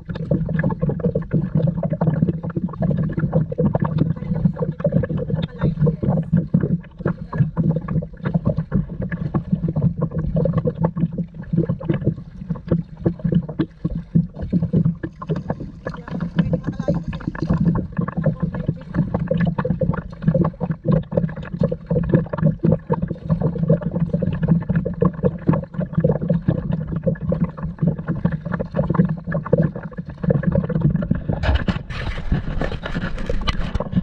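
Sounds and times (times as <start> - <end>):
water lapping against kayak hull: 0.0 - 34.0.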